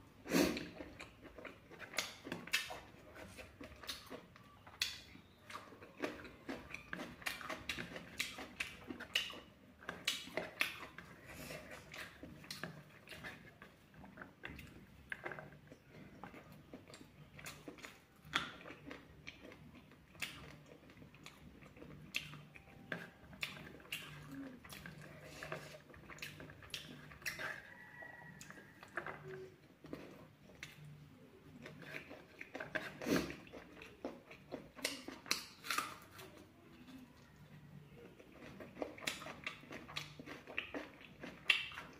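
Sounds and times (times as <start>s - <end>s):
chewing and mouth smacking: 0.4s - 41.9s.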